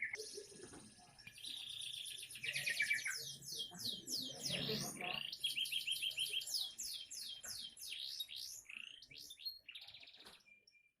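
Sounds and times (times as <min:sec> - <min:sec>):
canary singing: 0:01.3 - 0:10.1.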